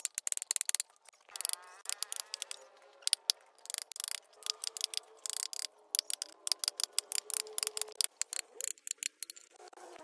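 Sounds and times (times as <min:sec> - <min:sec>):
carving tool scraping wood: 0:00.0 - 0:09.6.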